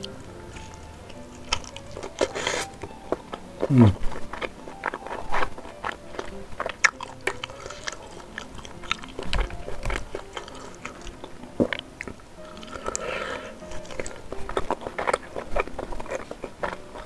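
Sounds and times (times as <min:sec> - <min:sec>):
mouth chewing with wet smacks: 0:00.0 - 0:17.0.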